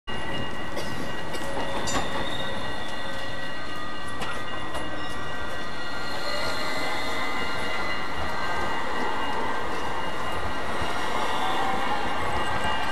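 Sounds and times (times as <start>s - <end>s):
rail clicks: 0.1s - 12.9s
tram wheels squealing: 0.1s - 12.9s.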